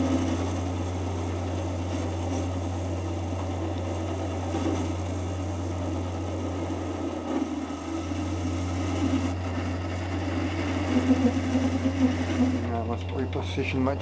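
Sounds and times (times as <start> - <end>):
lathe humming: 0.0 - 14.0.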